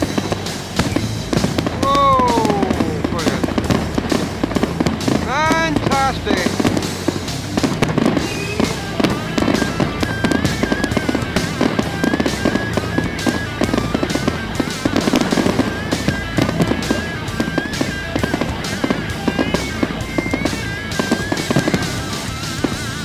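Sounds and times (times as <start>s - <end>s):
fireworks cracking and banging: 0.0s - 23.0s
loud music: 0.0s - 23.0s.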